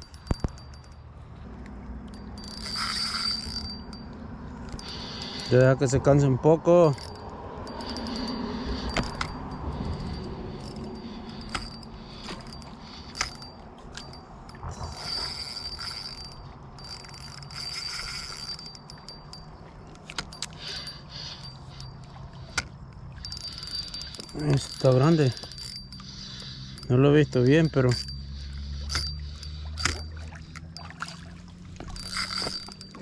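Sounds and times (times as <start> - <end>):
fishing reel ratcheting clicks: 0.0 - 1.0, 1.6 - 30.9, 31.8 - 33.0
reel drag buzzing: 0.0 - 33.0.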